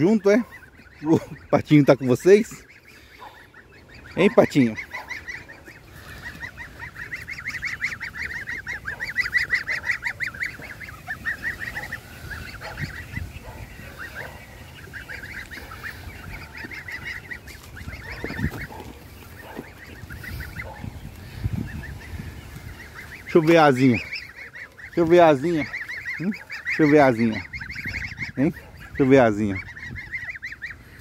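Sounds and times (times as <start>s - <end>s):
goslings and ducklings peeping: 0.0s - 31.0s.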